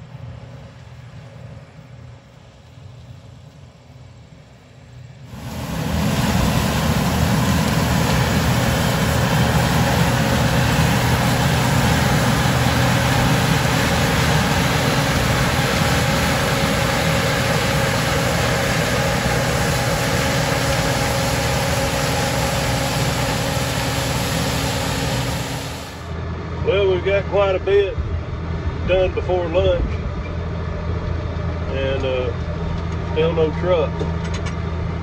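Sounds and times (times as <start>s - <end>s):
combine harvester engine drone: 0.0s - 35.0s.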